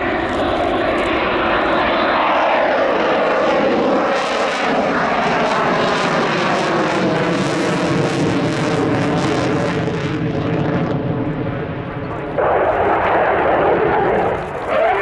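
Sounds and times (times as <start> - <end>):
loud jet noise overhead: 0.0 - 15.0.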